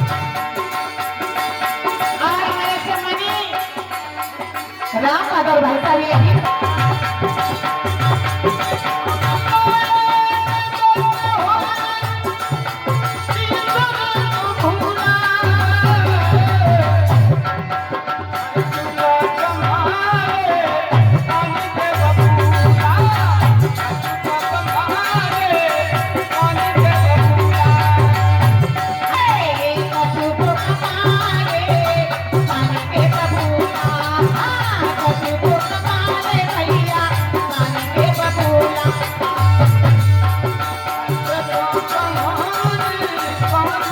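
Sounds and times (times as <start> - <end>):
hand drum rhythm: 0.0 - 5.2, 5.8 - 43.9.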